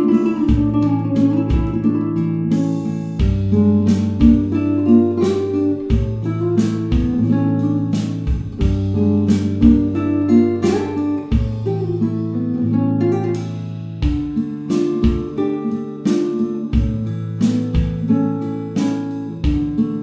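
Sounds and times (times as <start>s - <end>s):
acoustic guitar background music: 0.0s - 20.0s.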